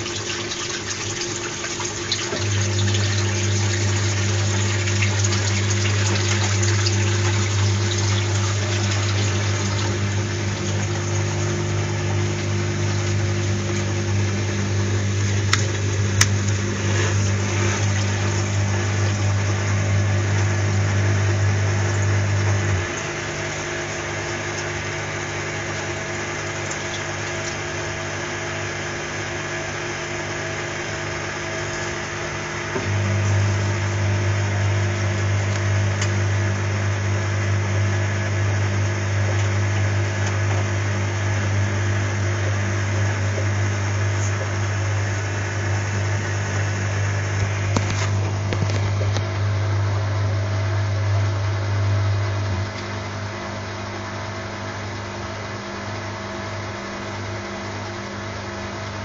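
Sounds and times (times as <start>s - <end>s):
washing machine hum: 0.0s - 59.0s
water sloshing in washing machine: 0.0s - 59.0s.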